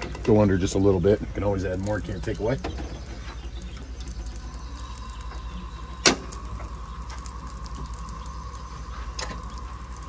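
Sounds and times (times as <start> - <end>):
camp stove burner rumbling: 0.0 - 10.0.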